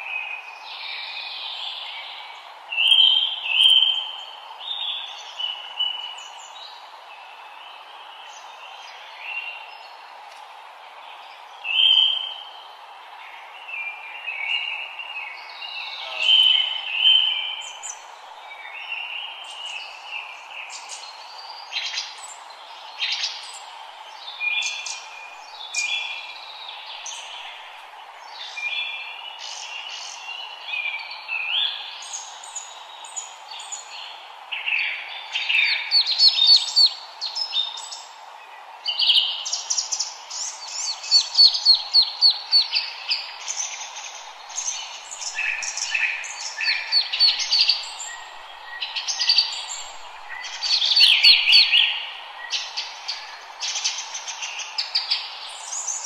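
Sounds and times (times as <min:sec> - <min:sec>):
background hiss: 0:00.0 - 0:56.0
songbirds singing: 0:00.0 - 0:56.0.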